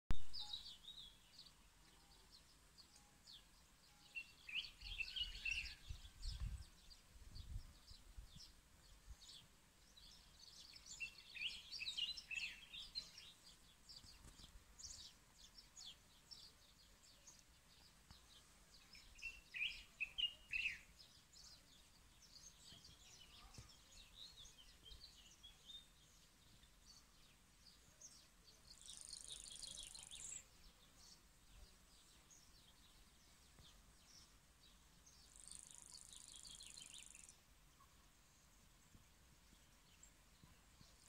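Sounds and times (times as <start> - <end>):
faint birdsong: 0.1 - 41.0.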